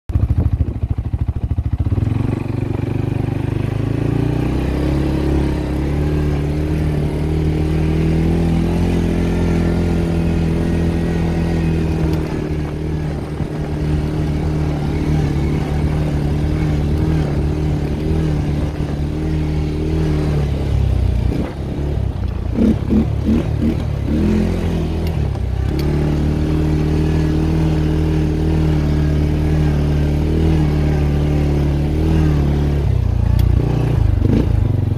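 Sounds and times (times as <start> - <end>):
atv engine running: 0.1 - 34.9.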